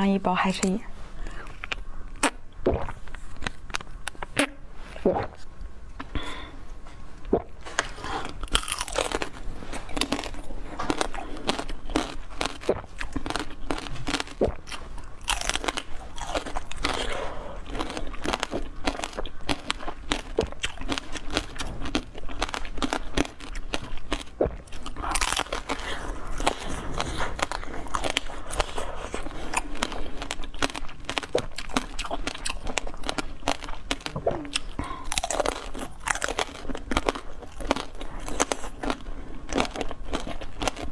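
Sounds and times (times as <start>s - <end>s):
crunching and chewing food: 0.6s - 40.9s.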